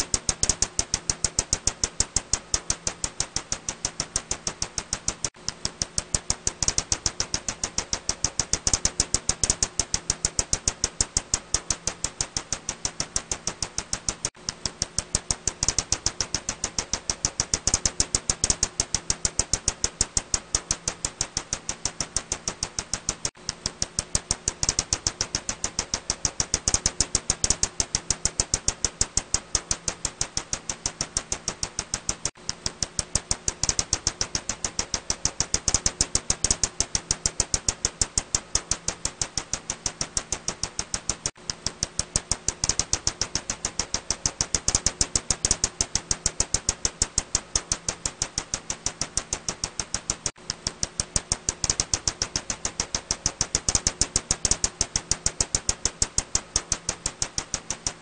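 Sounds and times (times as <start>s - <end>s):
bat echolocation clicks: 0.0s - 58.0s.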